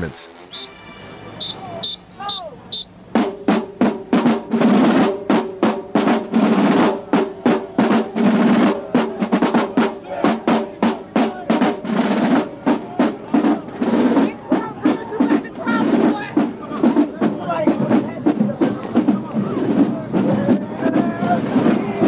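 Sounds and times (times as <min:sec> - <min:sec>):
snare drum rolls: 0:00.6 - 0:22.0
snare drums playing: 0:01.3 - 0:22.0.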